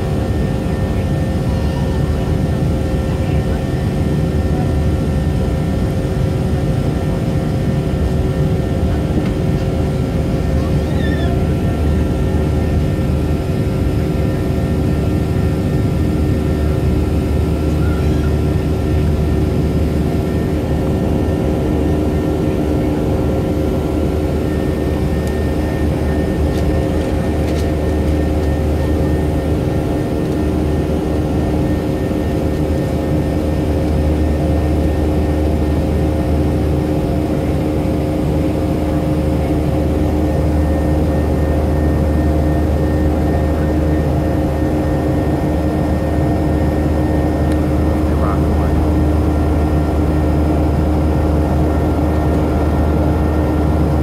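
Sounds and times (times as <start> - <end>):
airliner engine rumble: 0.0 - 54.0
steady humming tones: 0.0 - 54.0.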